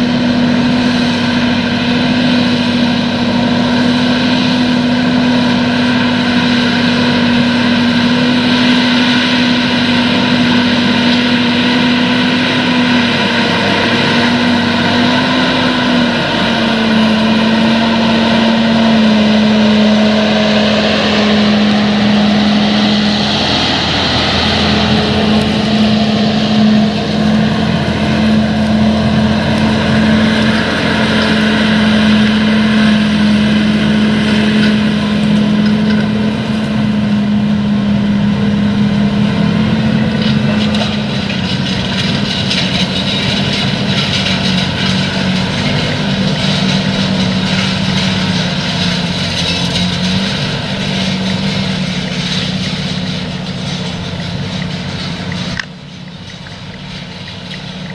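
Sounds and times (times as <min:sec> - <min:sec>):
discs and tines working soil: 0:00.0 - 0:57.9
tractor diesel engine under load: 0:00.0 - 0:57.9.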